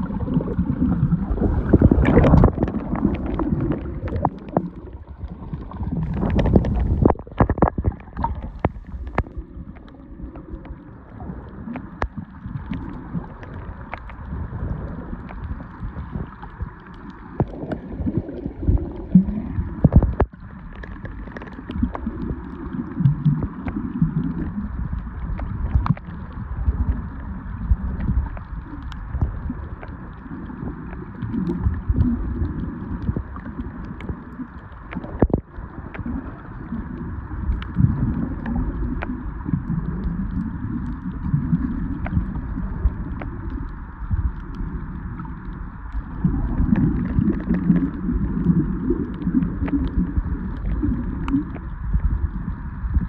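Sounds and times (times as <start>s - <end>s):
underwater rumble of moving water: 0.0s - 53.0s.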